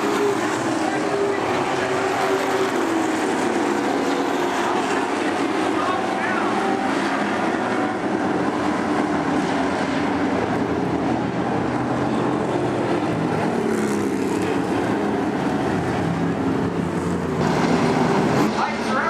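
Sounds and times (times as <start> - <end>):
racing truck engines: 0.0 - 19.0.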